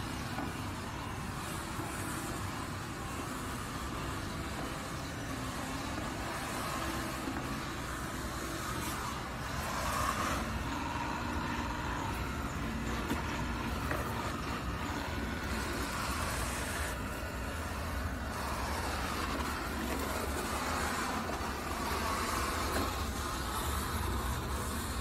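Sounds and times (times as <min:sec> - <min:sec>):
robot vacuum whirring: 0:00.0 - 0:25.0.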